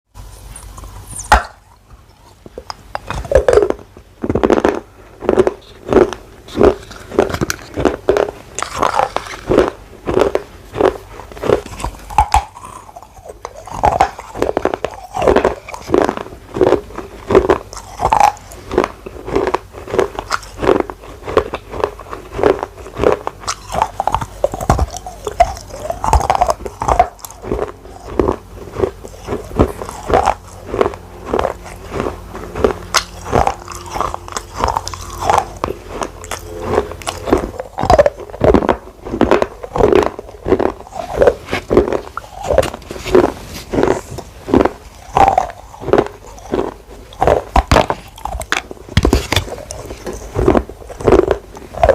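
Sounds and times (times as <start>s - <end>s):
crunching chewing of clay: 0.2s - 51.9s.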